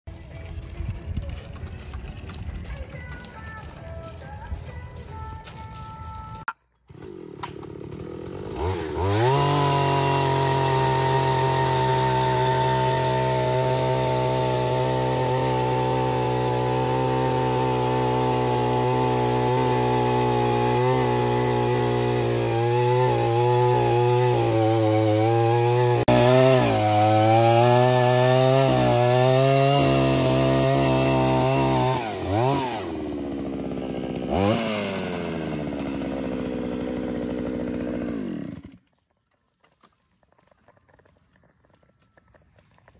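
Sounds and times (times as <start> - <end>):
earth auger engine running: 0.1 - 39.0
auger boring into soil: 0.1 - 42.9.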